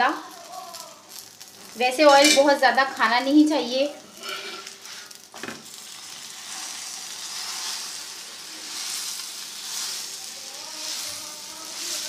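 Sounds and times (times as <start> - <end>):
flatbread sizzling in oil: 0.0 - 12.0.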